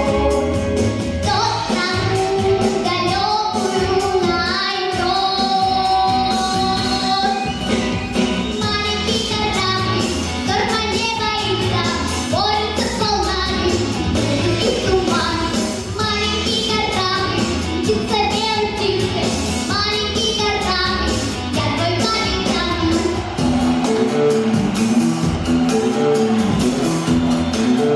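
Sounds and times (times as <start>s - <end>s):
girl singing pop song: 0.0s - 7.6s, 8.5s - 23.4s
backing track with bass beat: 5.0s - 27.9s.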